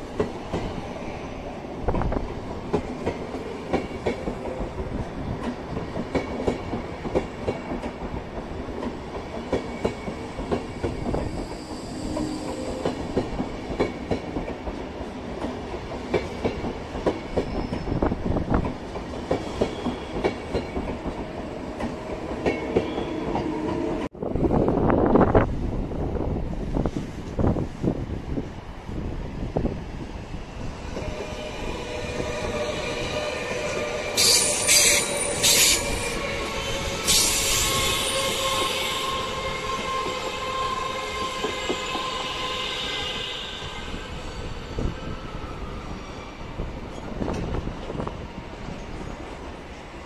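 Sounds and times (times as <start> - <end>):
train carriages rumbling: 0.0 - 49.6
electric locomotive passing: 0.0 - 50.0.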